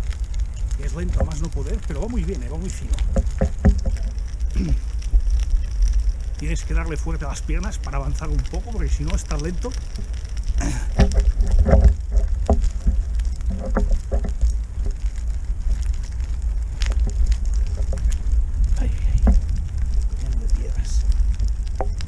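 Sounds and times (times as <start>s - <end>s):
crackling and knocks: 0.0s - 22.0s
wind noise on microphone: 0.0s - 22.0s.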